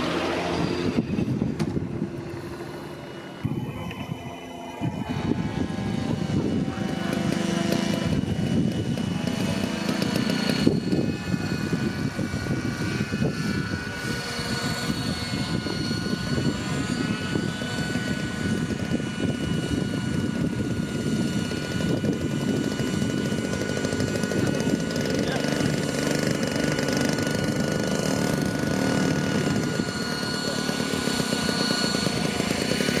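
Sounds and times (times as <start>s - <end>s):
high motor whine: 0.0s - 33.0s
model helicopter rotor chopping: 0.0s - 33.0s.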